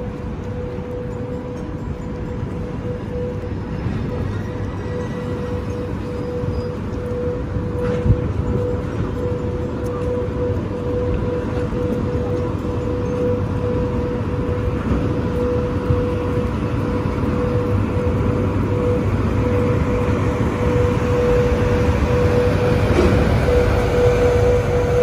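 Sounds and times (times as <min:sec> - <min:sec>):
electric locomotive whine: 0:00.0 - 0:25.0.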